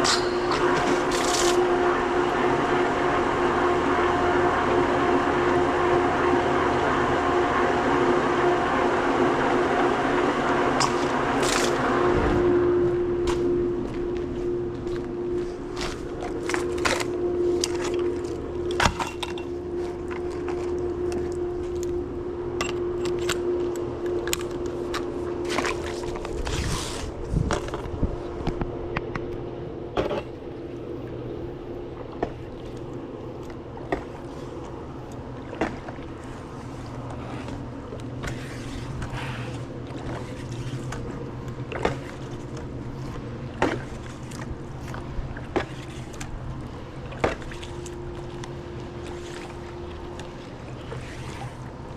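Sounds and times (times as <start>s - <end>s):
pool brush scraping in water: 0.0s - 21.8s, 24.1s - 27.9s, 32.2s - 51.9s
pool pump humming: 0.0s - 51.9s.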